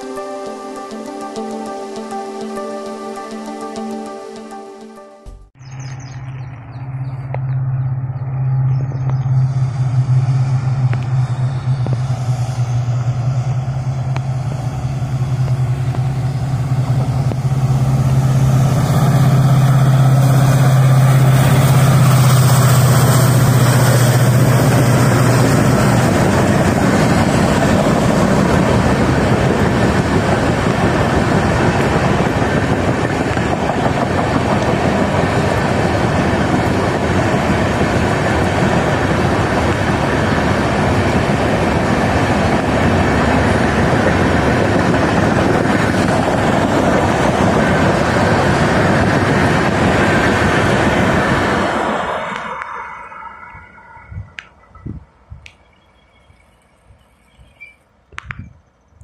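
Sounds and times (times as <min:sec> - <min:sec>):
diesel locomotive engine drone: 0:00.0 - 0:59.0
train coaches rolling on rails: 0:06.2 - 0:58.3.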